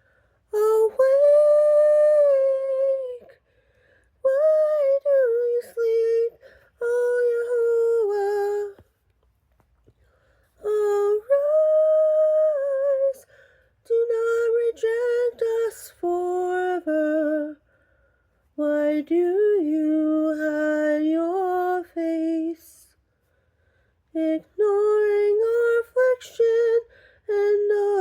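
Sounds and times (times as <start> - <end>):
woman singing unaccompanied: 0.4 - 3.6, 4.2 - 9.0, 10.4 - 17.7, 18.5 - 23.0, 24.1 - 28.0.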